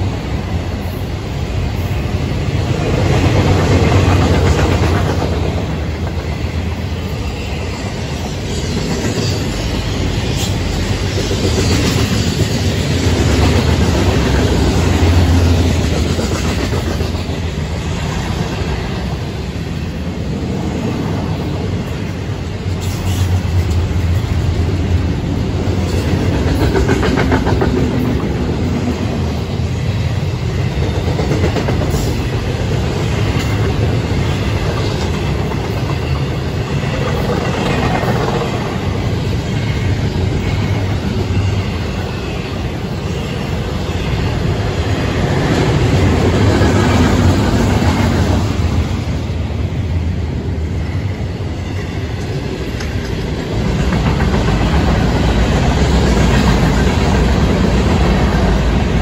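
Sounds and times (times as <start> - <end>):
clickety-clack over rail joints: 0.0 - 59.0
freight train wheels rumbling on rails: 0.0 - 59.0.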